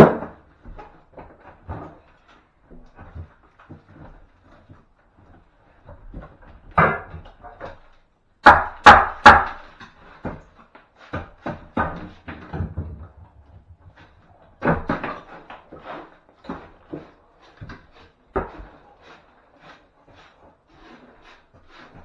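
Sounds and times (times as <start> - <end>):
wooden knocks and bangs: 0.0 - 18.8.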